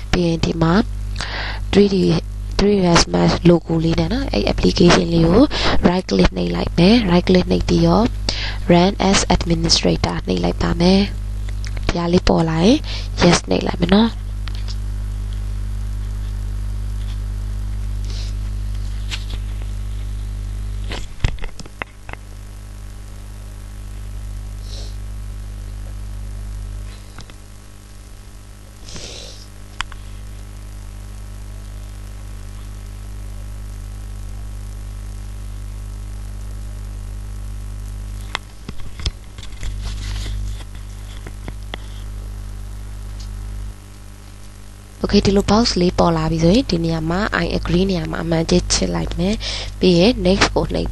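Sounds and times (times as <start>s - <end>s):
buzzy electrical mains hum: 0.0s - 50.9s.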